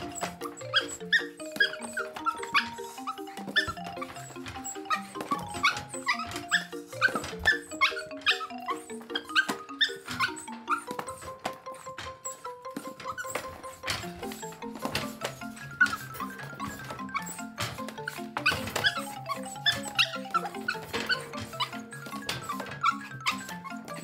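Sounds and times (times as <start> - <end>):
bouncy background music: 0.0 - 24.0
puppy scrabbling in wire cage: 3.3 - 24.0.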